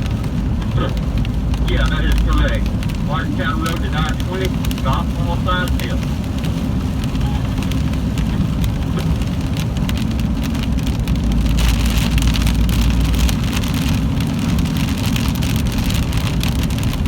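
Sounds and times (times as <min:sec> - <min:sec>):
rain hitting a car: 0:00.0 - 0:17.0
road and engine rumble: 0:00.0 - 0:17.0.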